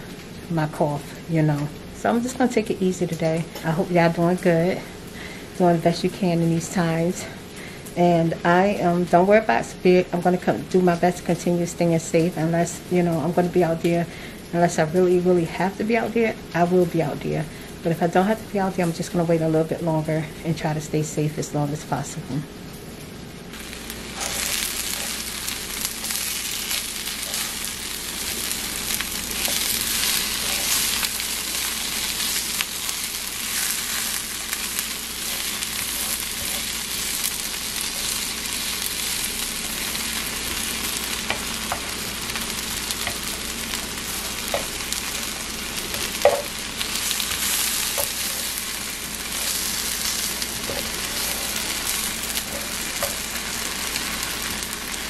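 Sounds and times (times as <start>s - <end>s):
food sizzling in a frying pan: 0.0s - 55.0s.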